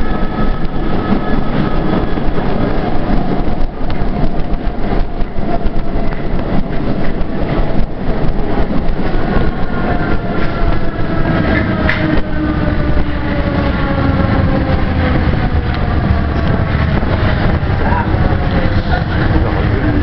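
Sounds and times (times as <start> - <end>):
falling train whine: 0.0 - 20.0
metro train rumbling on rails: 0.0 - 20.0.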